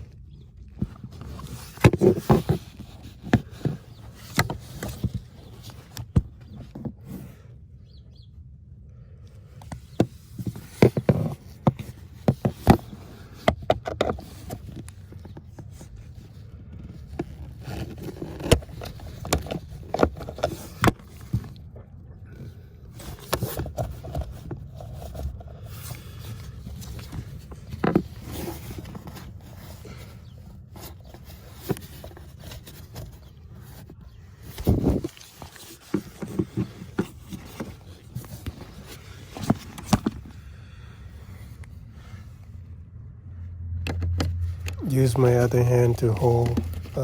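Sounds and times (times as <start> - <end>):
hand tools scraping plastic: 0.7 - 7.4, 9.9 - 21.6, 22.3 - 40.6, 44.5 - 47.0.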